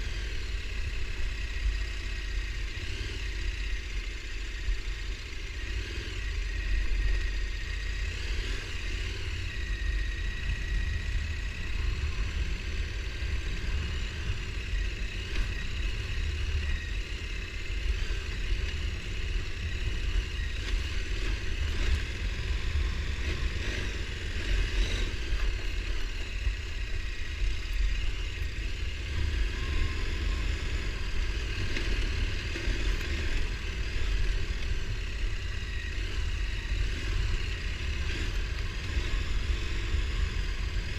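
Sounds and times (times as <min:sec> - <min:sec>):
quad bike engine rumble: 0:00.0 - 0:40.9.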